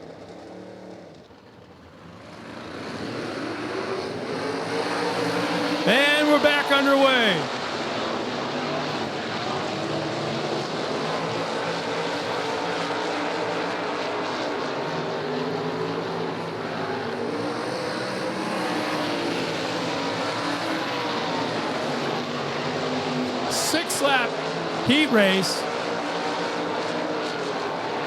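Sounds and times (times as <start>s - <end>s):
racing car engines droning: 0.0s - 28.0s.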